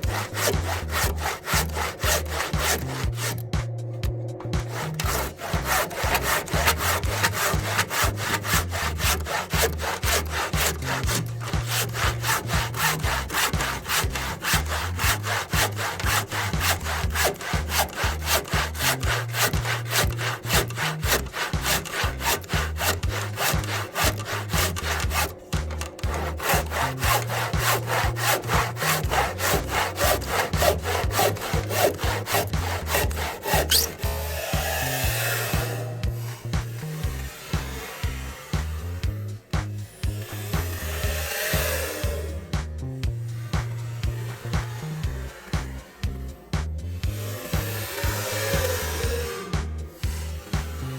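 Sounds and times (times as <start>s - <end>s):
hand saw cutting wood: 0.0s - 50.9s.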